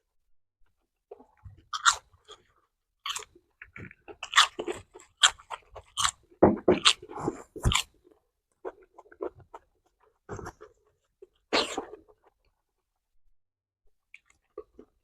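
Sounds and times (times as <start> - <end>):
crunchy food being chewed: 1.1 - 12.9, 14.0 - 15.0.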